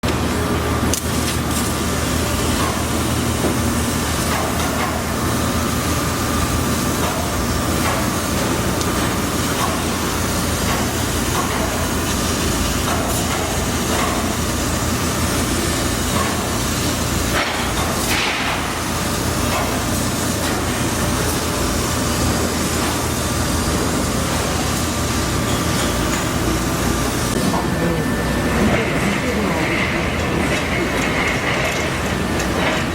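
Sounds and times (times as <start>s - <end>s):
machine hum: 0.0s - 32.9s.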